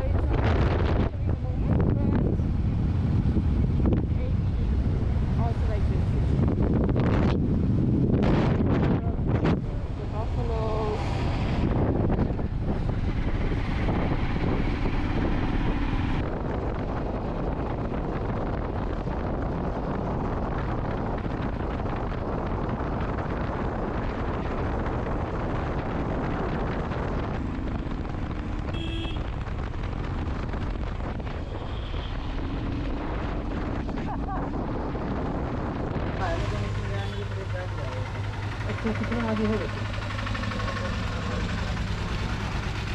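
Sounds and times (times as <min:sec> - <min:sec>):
vehicle running: 0:00.0 - 0:42.9
wind buffeting microphone: 0:00.0 - 0:42.9.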